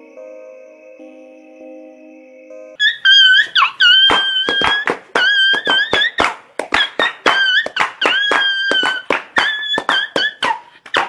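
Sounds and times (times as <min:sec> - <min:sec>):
whistle-like melody: 0:00.0 - 0:11.0.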